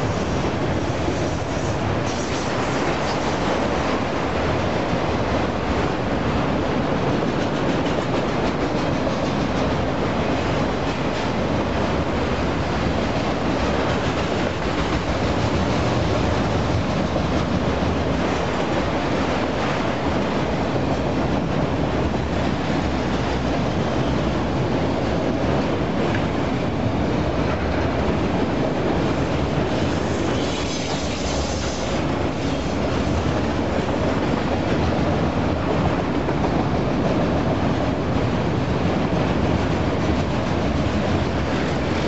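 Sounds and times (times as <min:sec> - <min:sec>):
steel wheels running on rails: 0:00.0 - 0:42.0.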